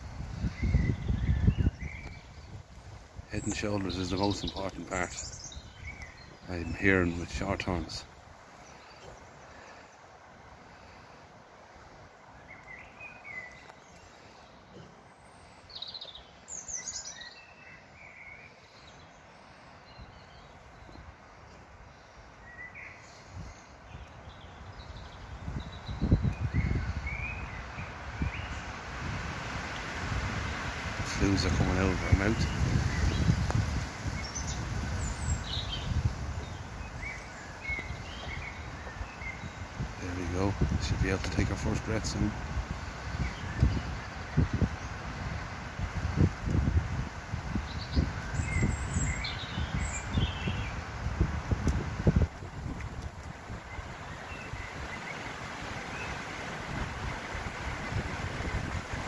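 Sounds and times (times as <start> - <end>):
birds chirping: 0.0 - 59.0
outdoor background hiss: 0.0 - 59.0.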